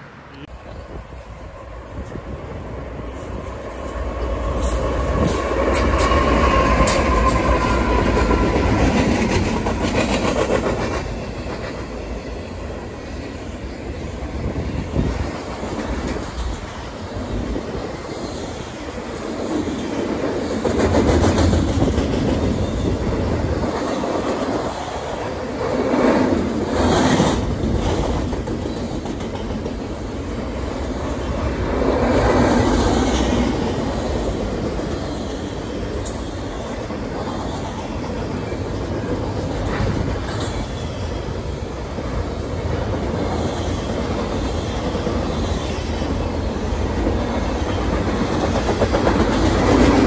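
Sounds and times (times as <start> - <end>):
wheels rumbling on rail: 0.0 - 50.0
clickety-clack over rail joints: 0.7 - 13.3, 14.4 - 50.0.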